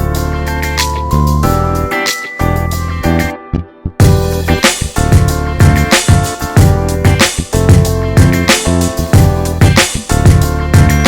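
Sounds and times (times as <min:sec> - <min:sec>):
background music with bass: 0:00.0 - 0:11.0.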